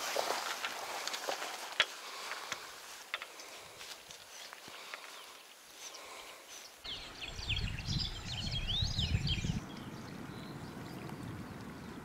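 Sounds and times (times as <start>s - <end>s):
songbird singing: 2.0s - 12.0s.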